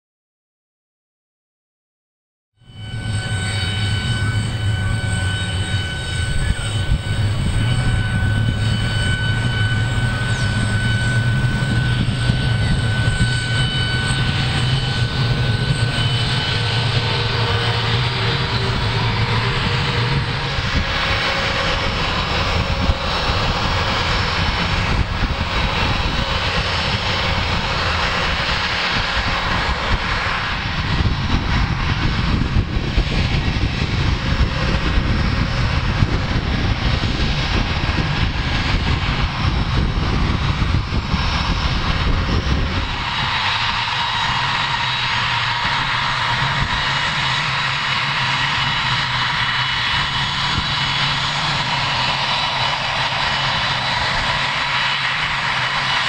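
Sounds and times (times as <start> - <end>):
jet engines whining at idle: 2.6 - 56.0.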